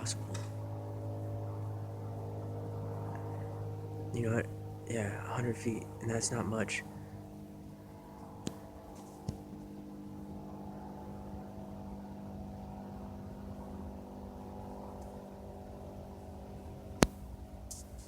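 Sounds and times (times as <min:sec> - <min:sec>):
propeller plane droning overhead: 0:00.0 - 0:18.0.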